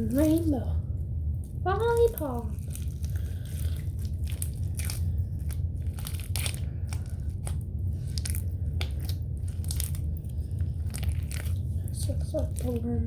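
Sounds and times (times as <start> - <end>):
low hum: 0.0 - 13.0
slime crackling and squelching: 0.0 - 13.0.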